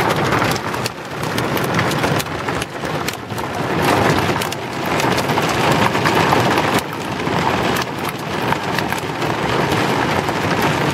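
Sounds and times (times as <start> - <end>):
torrential rain pouring: 0.0 - 10.9.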